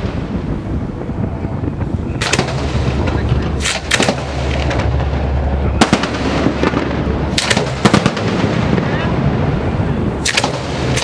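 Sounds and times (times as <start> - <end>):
fireworks display noise: 0.0 - 11.0
fireworks sharp reports: 0.0 - 11.0.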